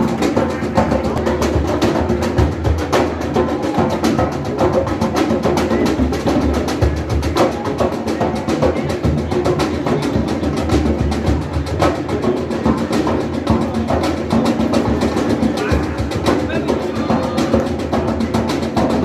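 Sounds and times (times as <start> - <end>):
drums playing rapid rhythm: 0.0 - 19.0.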